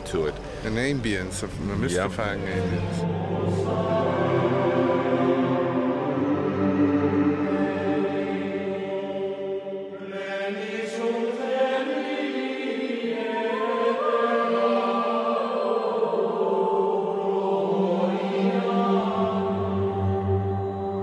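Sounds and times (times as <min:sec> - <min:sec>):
slow choral chant: 0:00.0 - 0:21.0.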